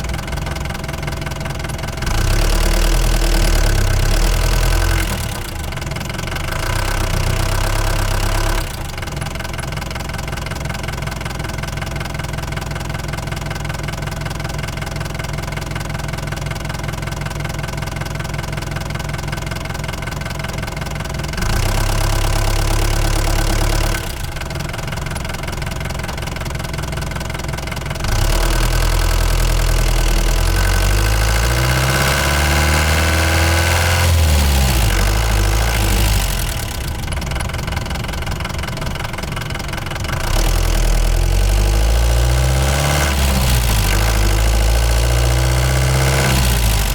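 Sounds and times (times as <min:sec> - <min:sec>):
van engine running: 0:00.0 - 0:46.9.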